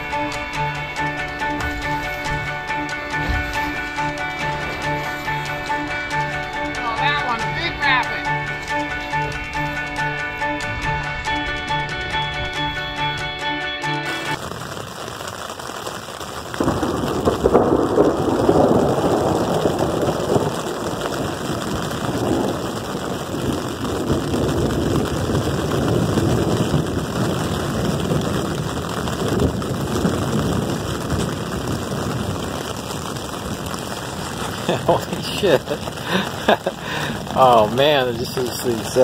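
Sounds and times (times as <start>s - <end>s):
thunder rumbling: 0.0s - 39.0s.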